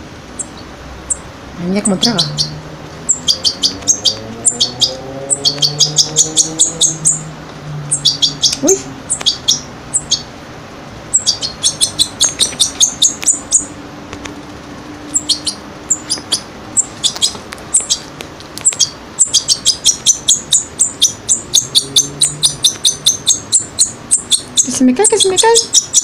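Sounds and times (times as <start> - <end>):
bird chick begging chirps: 0.3 - 10.4, 11.0 - 13.8, 15.0 - 26.0.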